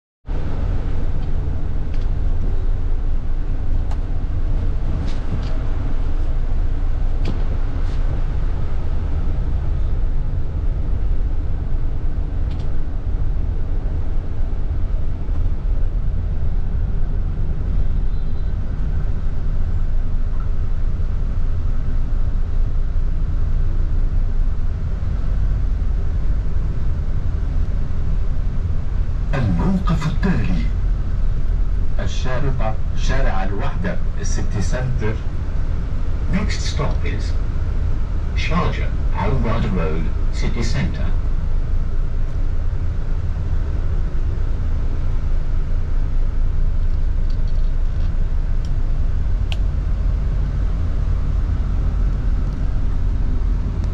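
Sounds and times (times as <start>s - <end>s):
bus engine and road rumble: 0.2s - 53.9s.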